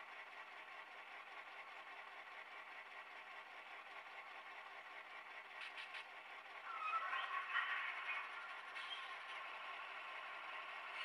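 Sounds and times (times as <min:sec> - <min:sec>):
diesel engine idling from small speaker: 0:00.0 - 0:11.0.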